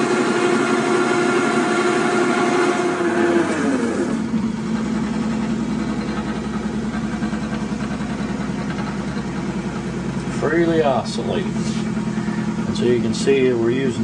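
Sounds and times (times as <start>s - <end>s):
machine hum with fast flutter: 0.0s - 14.0s.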